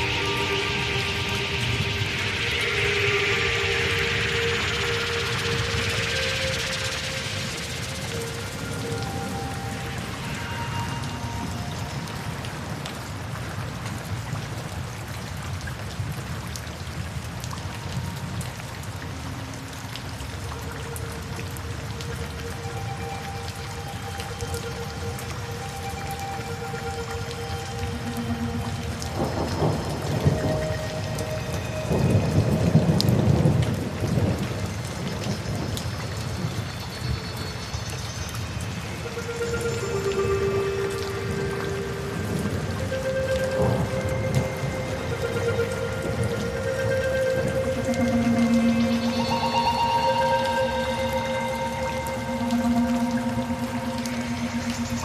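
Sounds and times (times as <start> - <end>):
raindrops ticking: 0.0 - 55.0
steady rain hiss: 0.0 - 55.0.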